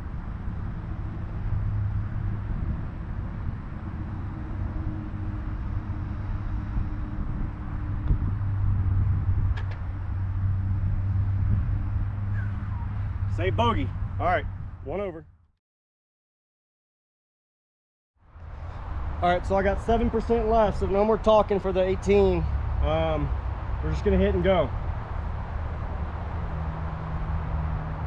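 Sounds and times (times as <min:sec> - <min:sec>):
vehicle engine humming: 0:00.0 - 0:15.2, 0:18.4 - 0:28.0.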